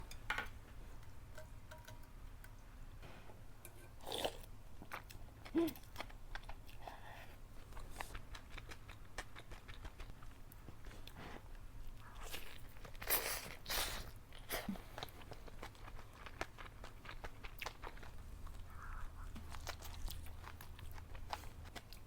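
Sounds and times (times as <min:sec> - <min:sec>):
person chewing crunchy food: 0:04.0 - 0:22.0.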